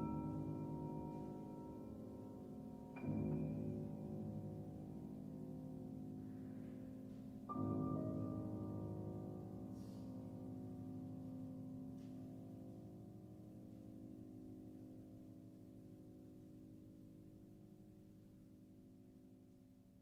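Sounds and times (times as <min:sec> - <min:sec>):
slow solo piano chords: 0:00.0 - 0:17.2.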